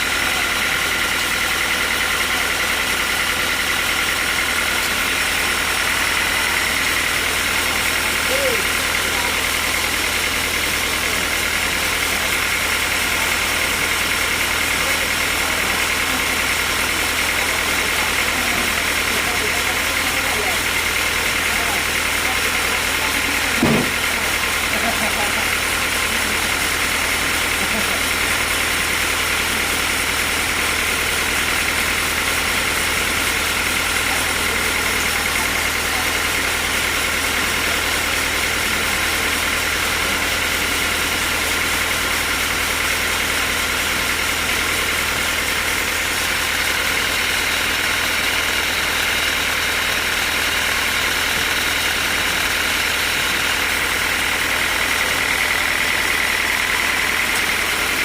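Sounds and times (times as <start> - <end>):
sawmill machinery hum and whine: 0.0 - 58.0.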